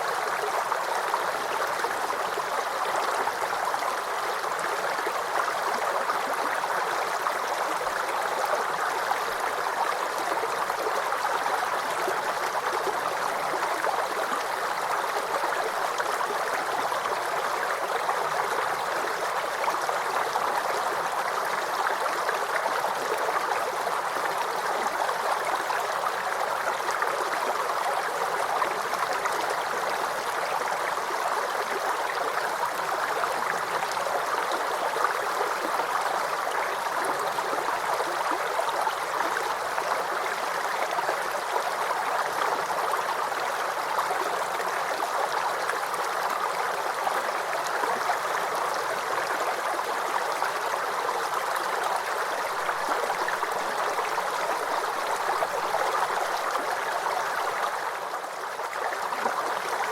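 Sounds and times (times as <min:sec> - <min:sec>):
brook water gurgling over stones: 0:00.0 - 0:59.9.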